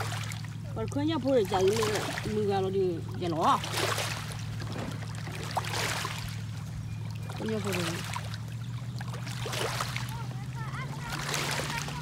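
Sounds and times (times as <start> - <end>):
boat motor humming: 0.0 - 12.0
water trickling and splashing: 0.0 - 12.0.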